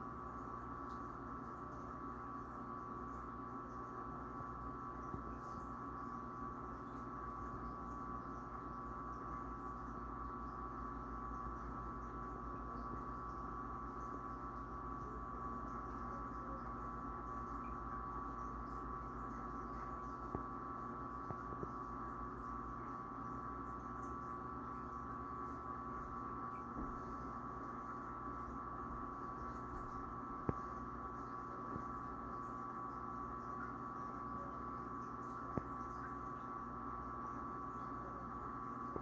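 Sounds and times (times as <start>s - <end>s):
aquarium equipment hum and whine: 0.0s - 39.0s.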